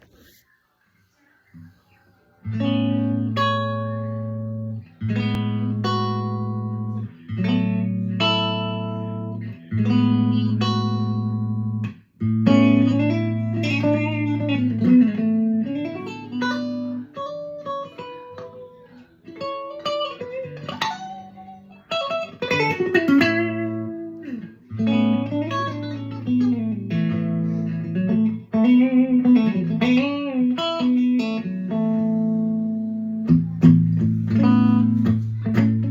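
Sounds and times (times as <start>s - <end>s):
guitar playing: 2.4s - 35.9s.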